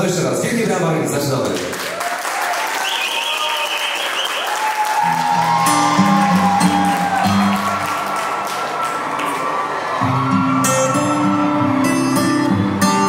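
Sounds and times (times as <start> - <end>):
applause and cheering: 1.5 - 13.0.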